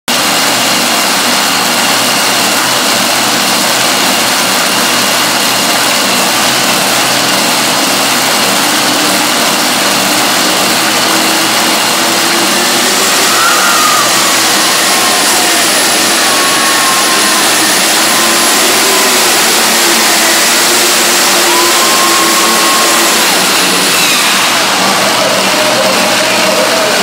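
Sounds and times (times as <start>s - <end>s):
vehicle engine noise: 0.1s - 27.0s.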